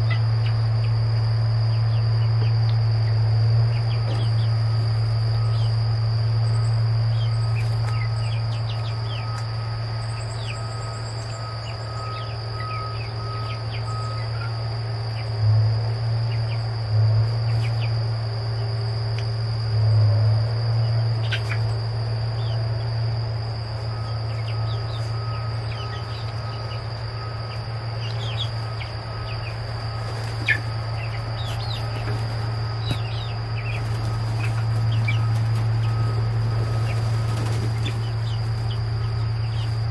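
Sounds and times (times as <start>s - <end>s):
chicks peeping: 0.0s - 1.0s, 1.6s - 18.0s, 21.1s - 22.9s, 23.9s - 39.9s
constant low hum: 0.0s - 39.9s
insects droning: 0.0s - 39.9s.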